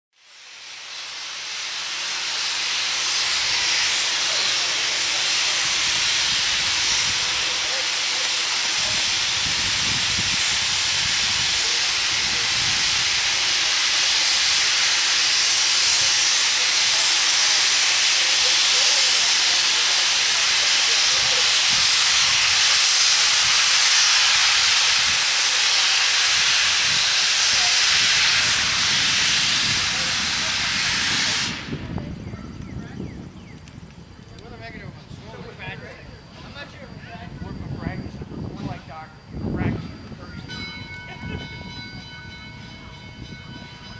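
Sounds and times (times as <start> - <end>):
steam locomotive venting steam: 0.2 - 43.9.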